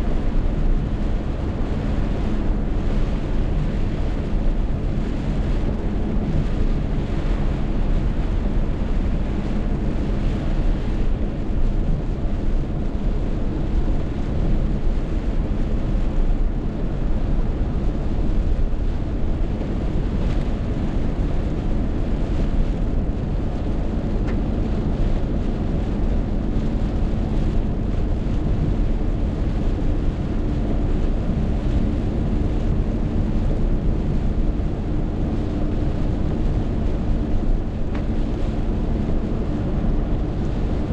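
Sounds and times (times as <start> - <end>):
wind buffeting microphone: 0.0 - 40.9
heavy rain: 0.1 - 40.9.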